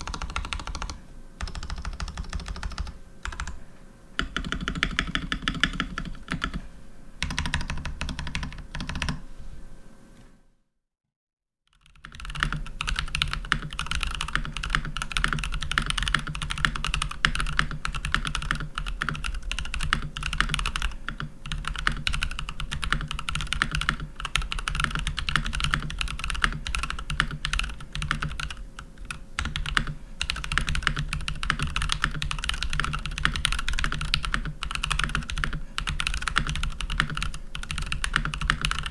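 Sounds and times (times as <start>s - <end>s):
typing on mechanical keyboard: 0.0s - 3.6s, 4.2s - 6.6s, 7.2s - 9.2s, 11.7s - 38.9s.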